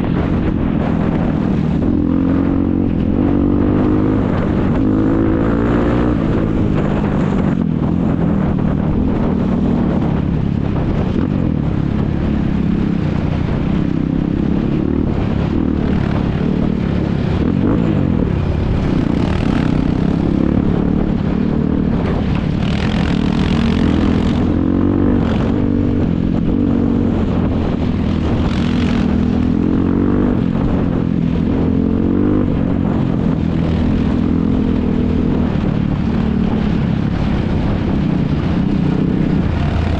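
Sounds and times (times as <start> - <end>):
quad bike engines revving: 0.0 - 39.9.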